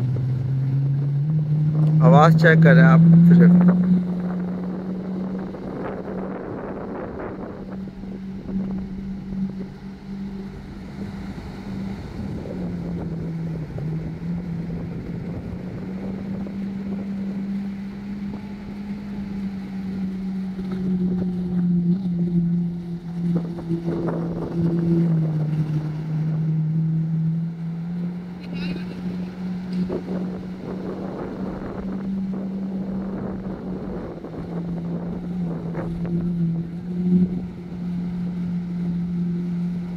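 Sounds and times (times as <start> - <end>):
jet ski engine droning: 0.0 - 39.9.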